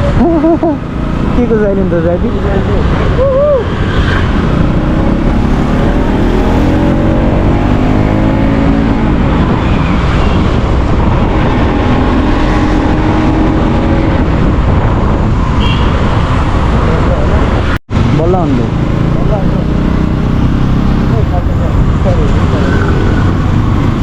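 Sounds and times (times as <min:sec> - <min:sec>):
vehicle engines passing: 0:00.0 - 0:24.0
wind and road noise: 0:00.0 - 0:24.0.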